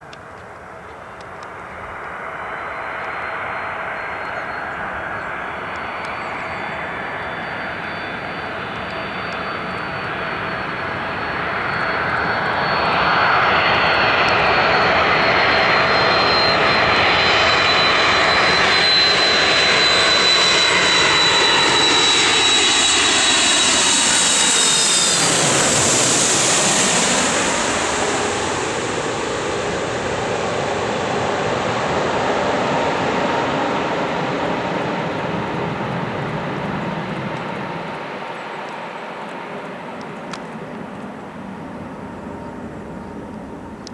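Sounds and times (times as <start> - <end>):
jet engines passing overhead: 0.0 - 43.9.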